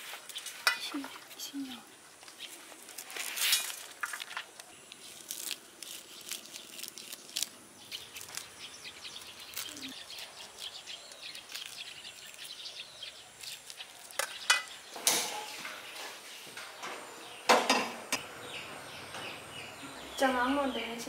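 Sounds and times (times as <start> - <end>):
small birds chirping: 0.2 - 3.2, 4.6 - 21.0.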